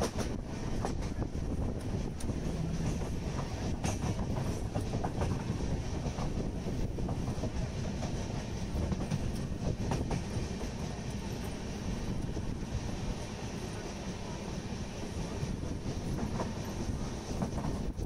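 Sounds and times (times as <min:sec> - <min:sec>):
train rumbling on rails: 0:00.0 - 0:18.0
train wheels clicking: 0:00.0 - 0:18.0.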